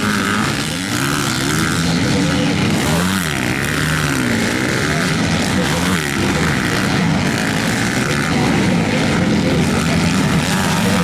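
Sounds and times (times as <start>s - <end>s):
distant motorbikes on circuit: 0.0s - 11.0s
motocross bikes revving past: 0.0s - 11.0s.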